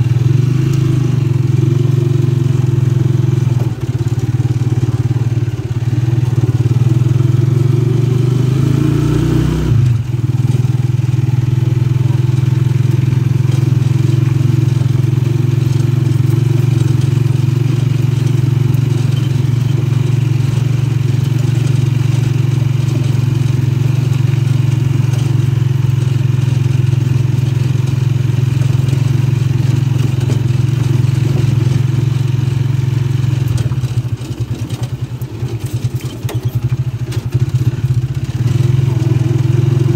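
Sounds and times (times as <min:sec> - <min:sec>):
small vehicle engine running: 0:00.0 - 0:39.9.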